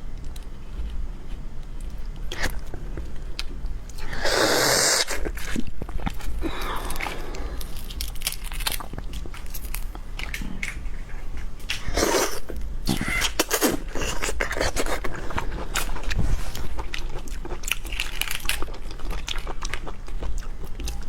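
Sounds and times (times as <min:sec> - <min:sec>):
crunchy bites and chewing: 0:00.2 - 0:21.0.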